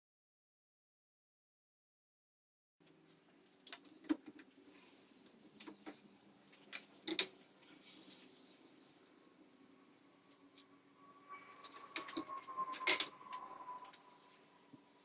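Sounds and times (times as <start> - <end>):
faint steady hum: 2.8 - 15.0.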